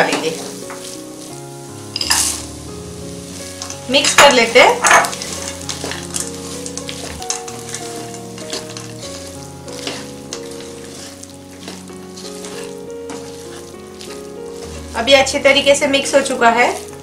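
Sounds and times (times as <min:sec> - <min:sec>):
vegetables sizzling in hot oil: 0:00.0 - 0:17.0
wooden spatula scraping pan: 0:00.0 - 0:17.0.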